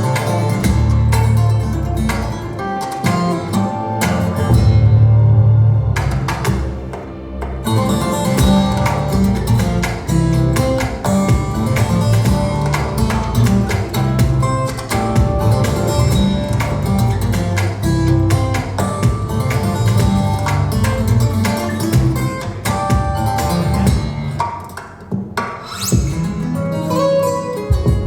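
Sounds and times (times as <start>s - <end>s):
acoustic guitar music over loudspeakers: 0.0s - 28.0s.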